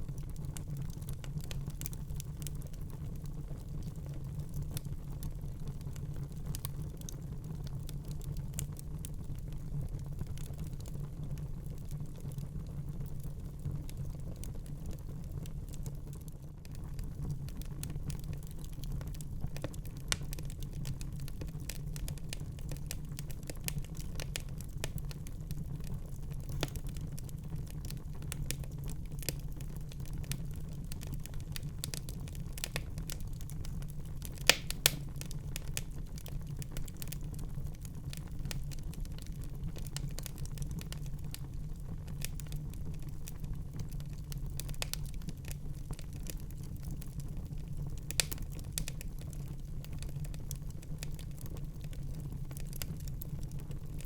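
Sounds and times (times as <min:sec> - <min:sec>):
fire popping and snapping: 0:00.0 - 0:54.0
wood fire crackling: 0:00.0 - 0:54.0.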